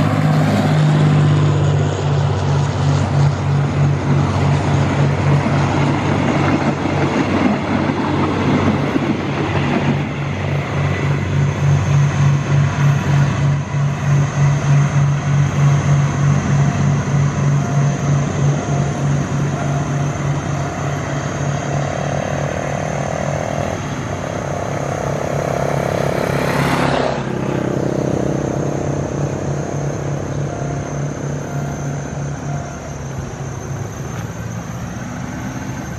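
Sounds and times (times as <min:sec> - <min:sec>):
diesel locomotive drone: 0:00.0 - 0:35.9
road vehicle passing: 0:00.0 - 0:35.9.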